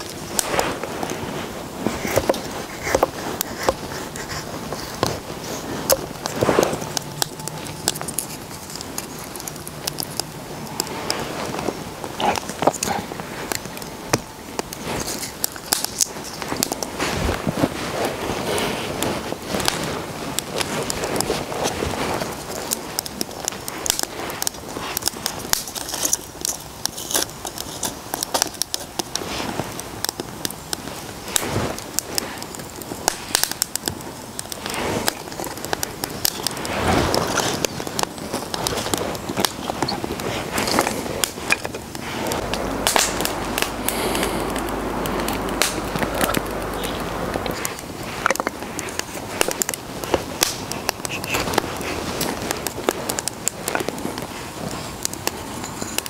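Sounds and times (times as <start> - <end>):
fire hissing: 0.0 - 56.0
sharp snaps of fire: 0.0 - 56.0
wood fire crackling: 0.0 - 56.0.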